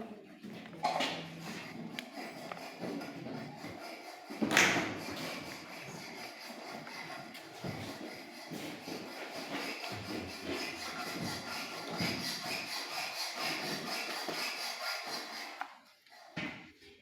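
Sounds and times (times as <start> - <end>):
hand tool rasping metal pipe: 1.3 - 15.6.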